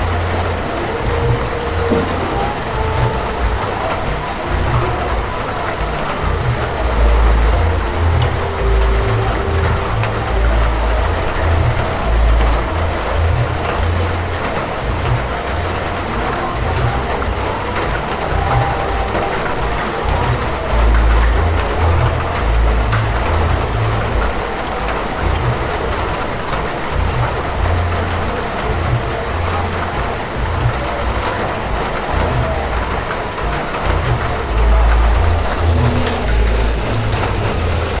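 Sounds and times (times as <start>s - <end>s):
heavy rain hissing: 0.0s - 38.0s
uneven low rumble: 0.0s - 38.0s.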